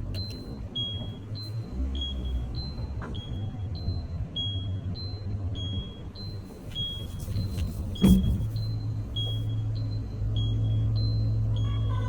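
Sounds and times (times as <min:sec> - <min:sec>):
two-tone warning beeps: 0:00.1 - 0:12.0.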